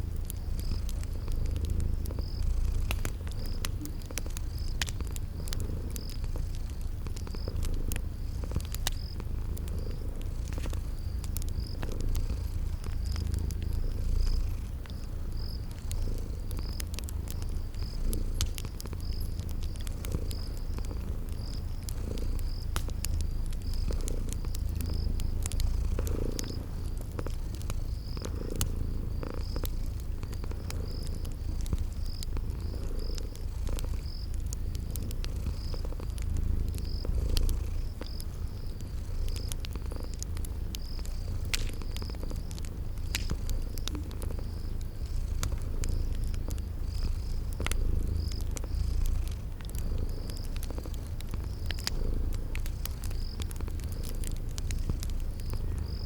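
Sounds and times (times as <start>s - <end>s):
cat purring: 0.0s - 56.0s
cricket chirping: 0.0s - 56.0s
fire crackling and popping: 0.0s - 56.0s.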